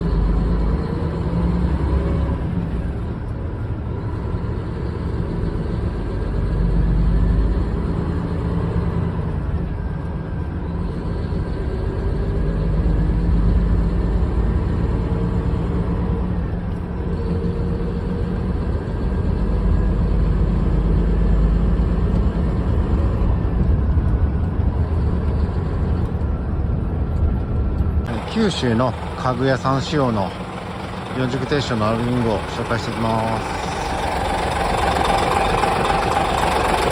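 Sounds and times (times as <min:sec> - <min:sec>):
truck diesel engine rumble: 0:00.0 - 0:36.9.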